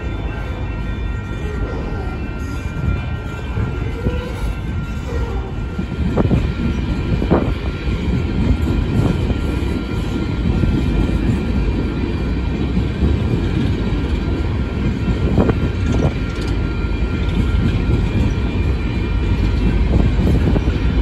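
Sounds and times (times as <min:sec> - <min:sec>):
freight wagons rumbling on rails: 0:00.0 - 0:21.0.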